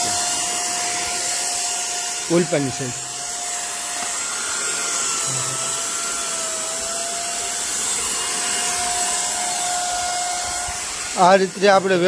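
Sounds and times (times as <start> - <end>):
air and paint spraying hiss: 0.0 - 12.0
paint spray gun motor whine: 0.0 - 12.0.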